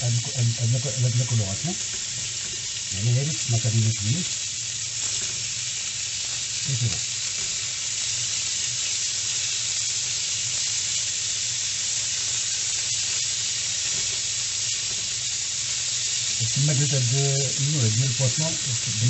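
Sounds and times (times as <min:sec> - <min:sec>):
fish sizzling in a frying pan: 0:00.0 - 0:19.0.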